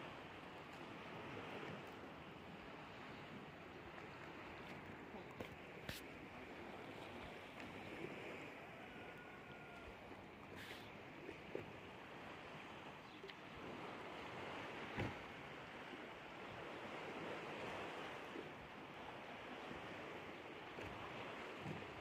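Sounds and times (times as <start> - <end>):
river water: 0.0 - 22.0
wind: 0.0 - 22.0.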